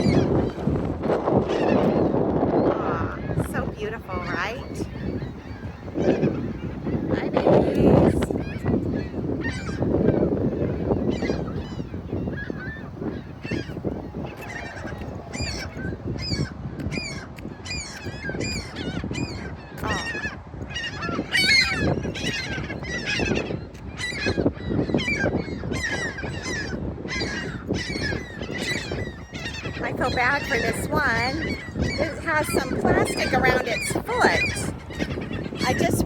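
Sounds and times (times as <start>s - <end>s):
seagulls squawking: 0.0s - 36.0s.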